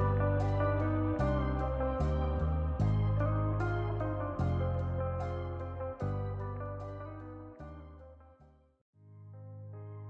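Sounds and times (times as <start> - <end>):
soft music with held notes: 0.0 - 8.6.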